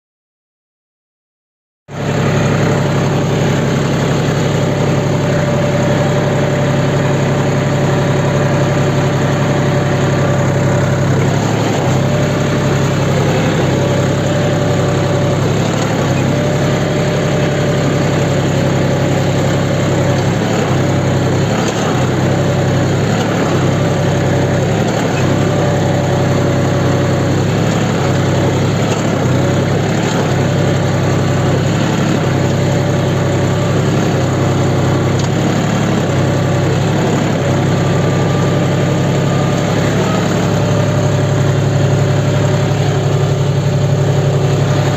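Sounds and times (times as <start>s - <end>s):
tractor engine running: 1.9s - 44.9s.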